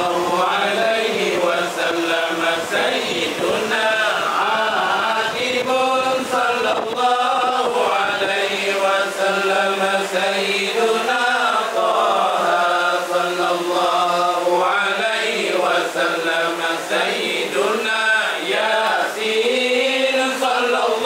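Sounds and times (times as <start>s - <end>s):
devotional chanting: 0.0s - 21.0s.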